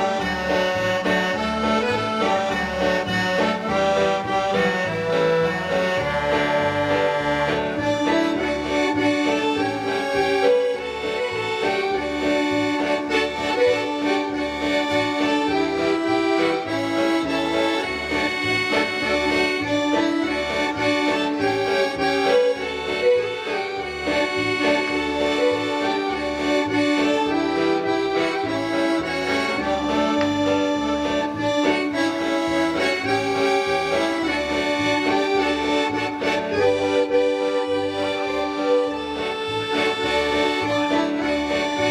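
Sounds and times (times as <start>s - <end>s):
instrumental music with held chords: 0.0s - 41.9s.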